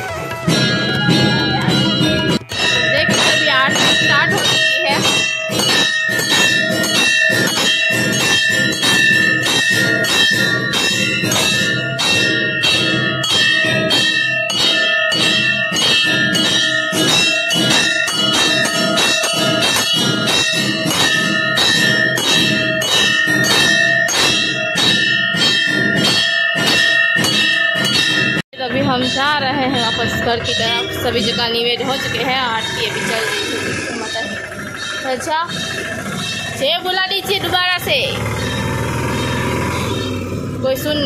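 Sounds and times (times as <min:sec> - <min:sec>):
bells ringing rapidly: 0:00.0 - 0:41.0.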